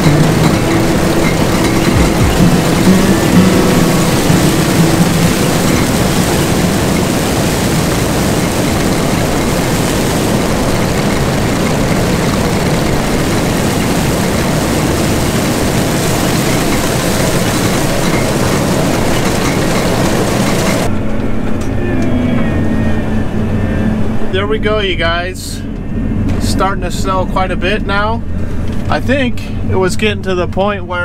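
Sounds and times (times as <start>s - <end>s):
combine harvester running: 0.0s - 31.0s
low machine drone: 0.0s - 31.0s.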